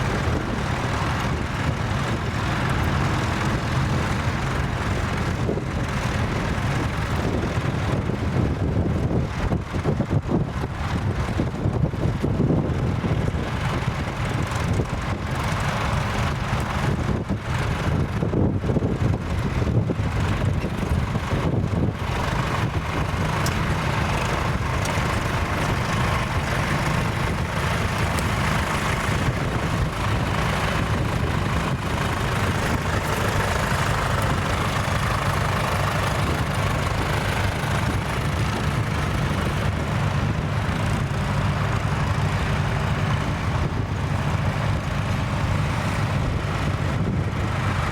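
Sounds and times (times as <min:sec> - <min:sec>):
tractor diesel engine running: 0:00.0 - 0:47.9
wind buffeting microphone: 0:00.0 - 0:47.9.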